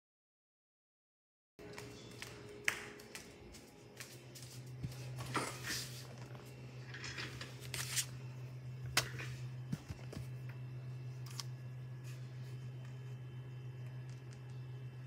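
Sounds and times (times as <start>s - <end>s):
steady low hum: 1.6s - 15.0s.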